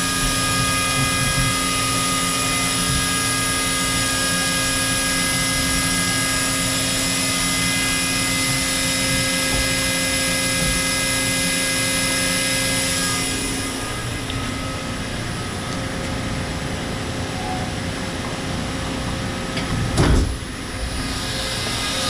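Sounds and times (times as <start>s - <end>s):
machining center whining hum: 0.0s - 22.0s.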